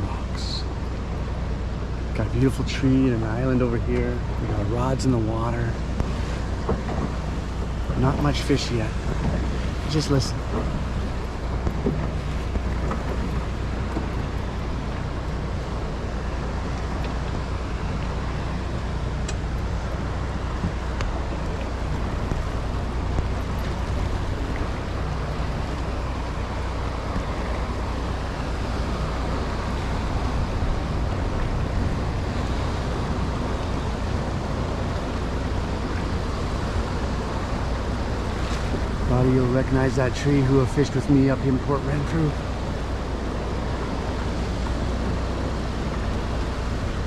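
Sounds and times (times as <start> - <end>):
low rumble: 0.0 - 47.0
waves crashing on rocks: 5.1 - 47.0.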